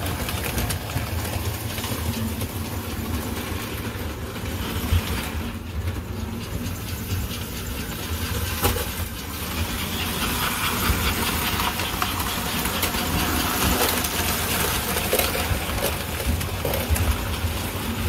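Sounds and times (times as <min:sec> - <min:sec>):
wheels clicking on rails: 0:00.0 - 0:18.0.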